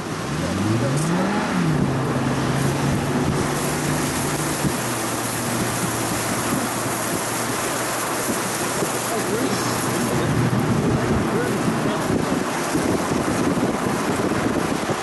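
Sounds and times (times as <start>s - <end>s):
car engine accelerating: 0.0s - 15.0s
wind and road noise: 0.0s - 15.0s.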